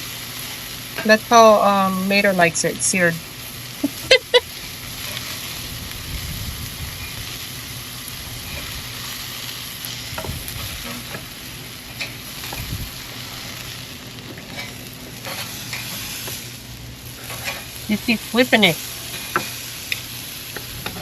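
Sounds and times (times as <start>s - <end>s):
meat sizzling on a grill: 0.0s - 21.0s.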